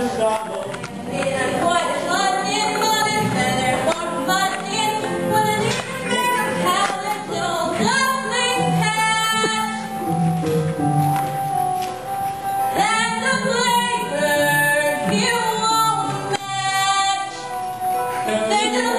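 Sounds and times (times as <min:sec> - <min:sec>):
singing with instrumental accompaniment: 0:00.0 - 0:18.9.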